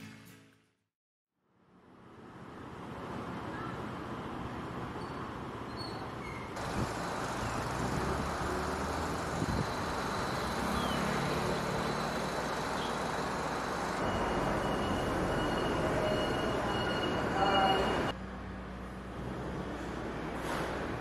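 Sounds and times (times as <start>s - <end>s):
street traffic hum: 1.5s - 21.0s.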